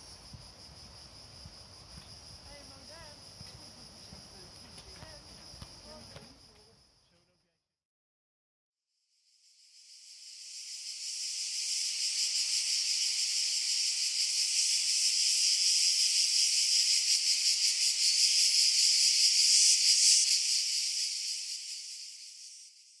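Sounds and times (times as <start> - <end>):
high-pitched insect chorus: 0.0 - 7.5, 9.1 - 23.0.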